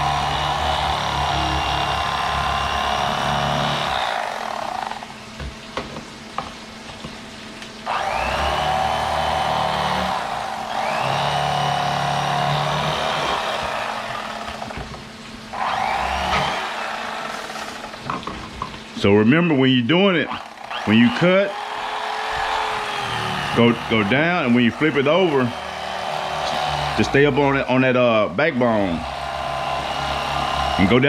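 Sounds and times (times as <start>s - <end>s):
electric knife running: 0.0s - 5.4s, 7.8s - 18.6s, 20.1s - 31.0s.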